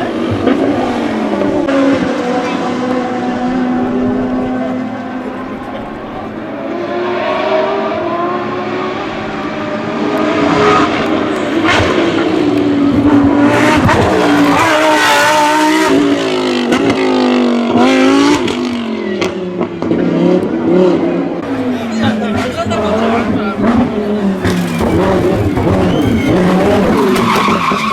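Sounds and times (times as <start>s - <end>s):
race car accelerating with upshifts: 0.0s - 27.9s.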